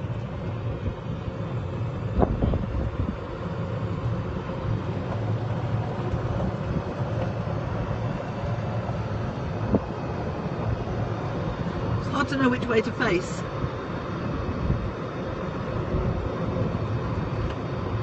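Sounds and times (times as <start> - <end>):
golf cart rumbling: 0.0 - 18.0
wind buffeting microphone: 1.9 - 12.3, 13.4 - 18.0.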